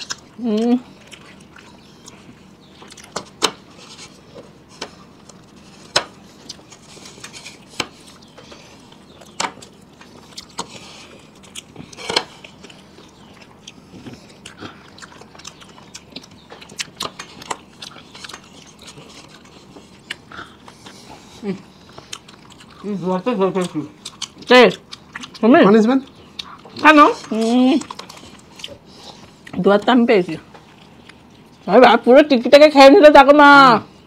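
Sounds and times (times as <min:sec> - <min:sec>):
people chewing burgers: 0:00.0 - 0:31.9.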